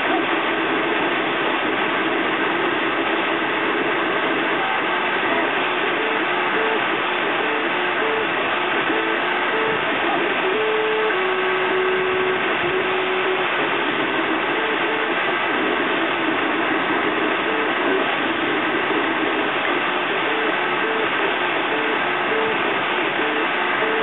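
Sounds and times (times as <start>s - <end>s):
cooling fans whirring: 0.0s - 24.0s
stepper motors singing: 3.0s - 24.0s.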